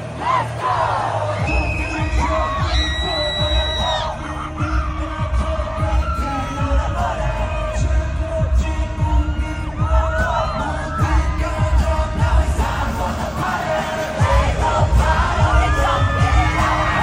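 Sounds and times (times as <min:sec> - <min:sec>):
heavy bass beat: 0:00.0 - 0:17.0
pop concert music over loudspeakers: 0:00.0 - 0:17.0
person singing: 0:00.1 - 0:17.0.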